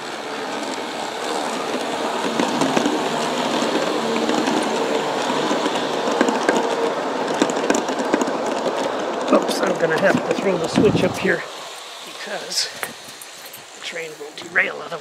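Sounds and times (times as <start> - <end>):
model train motors humming: 0.0 - 15.0
wheels clicking over rails: 0.0 - 15.0
wheels rumbling on track: 0.0 - 15.0.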